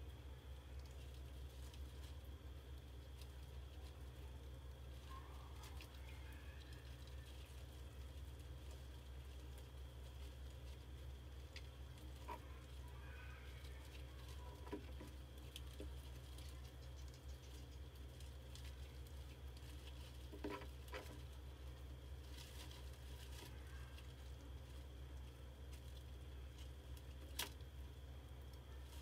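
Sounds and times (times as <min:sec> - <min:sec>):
faint ticks and scratches: 0:00.0 - 0:29.0
steady low hum: 0:00.0 - 0:29.0.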